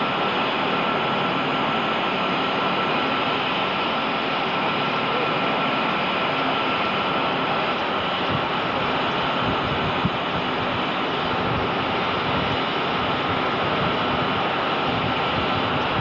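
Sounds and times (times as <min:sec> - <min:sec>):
constant high whine: 0:00.0 - 0:16.0
steady rushing noise: 0:00.0 - 0:16.0.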